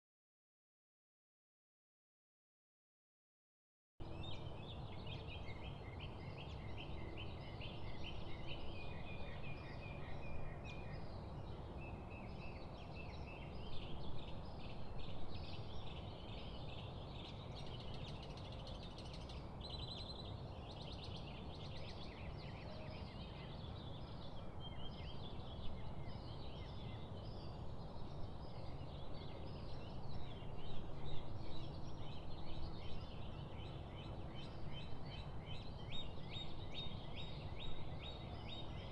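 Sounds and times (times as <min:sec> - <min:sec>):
birds chirping and trilling: 0:04.0 - 0:38.9
low background noise: 0:04.0 - 0:38.9.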